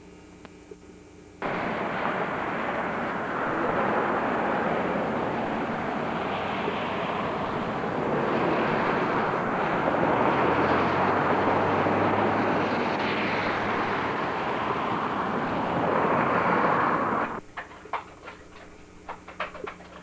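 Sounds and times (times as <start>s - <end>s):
low hum: 0.0s - 20.0s
rushing outdoor noise: 1.4s - 20.0s.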